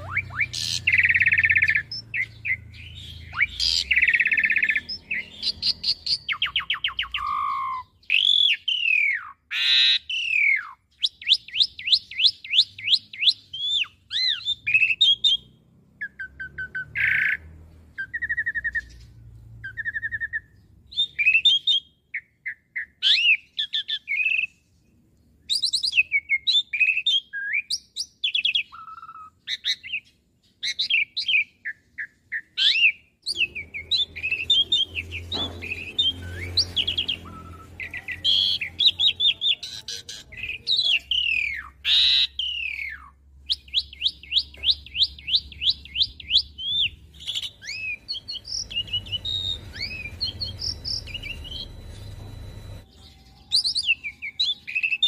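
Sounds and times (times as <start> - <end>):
starling singing whistles and trills: 0.0 - 24.6, 25.5 - 55.0.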